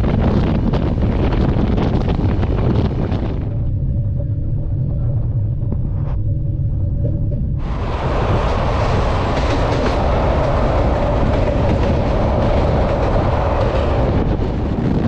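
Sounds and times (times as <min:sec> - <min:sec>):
train rumble: 0:00.0 - 0:15.0
wind buffeting microphone: 0:00.0 - 0:15.0.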